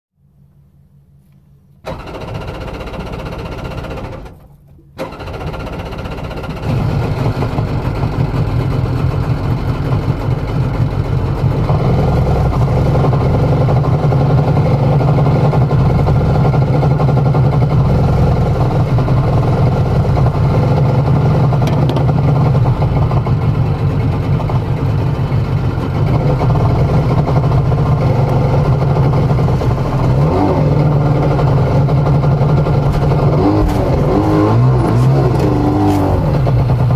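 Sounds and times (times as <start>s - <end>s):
boat engine running: 1.8s - 36.9s.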